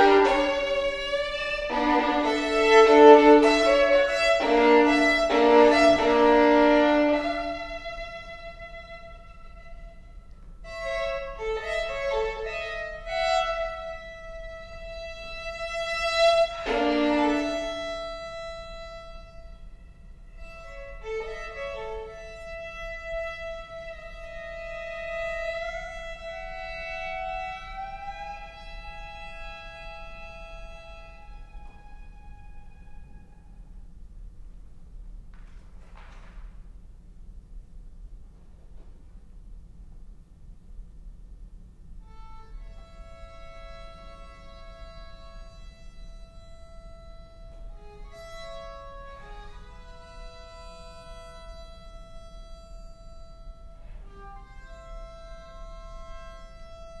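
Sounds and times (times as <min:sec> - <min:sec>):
solo violin: 0:00.0 - 0:34.0, 0:42.0 - 0:57.0.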